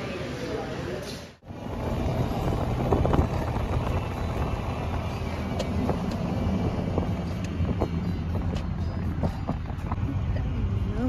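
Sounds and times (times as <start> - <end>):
road noise: 0.0 - 11.0
car engine rumble: 1.4 - 11.0.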